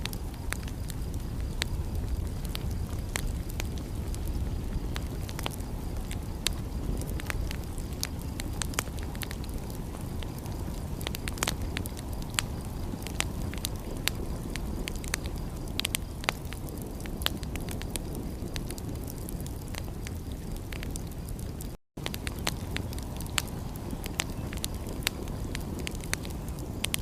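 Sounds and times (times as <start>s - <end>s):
sharp pops and snaps: 0.0s - 27.0s
wood fire crackling: 0.0s - 27.0s.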